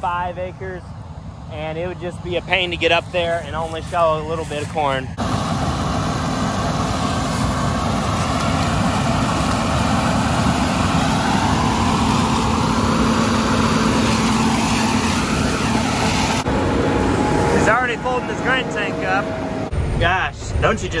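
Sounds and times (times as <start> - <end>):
combine harvester running: 0.0 - 19.9.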